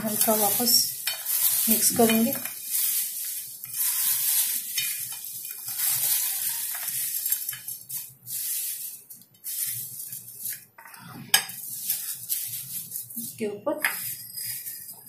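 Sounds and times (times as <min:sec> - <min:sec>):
crisp rustling of dry flakes: 0:00.0 - 0:10.7, 0:11.5 - 0:15.0.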